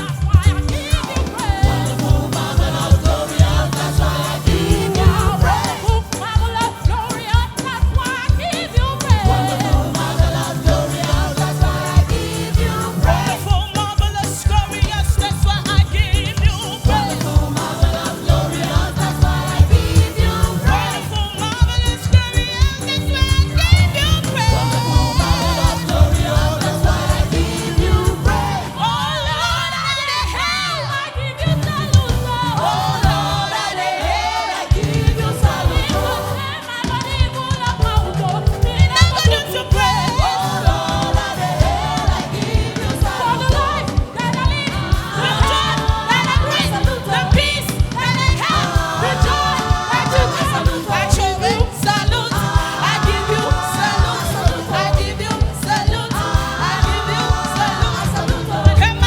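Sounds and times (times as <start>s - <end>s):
drum and bass beat: 0.0s - 29.1s, 31.9s - 59.0s
gospel choir singing: 0.0s - 59.0s.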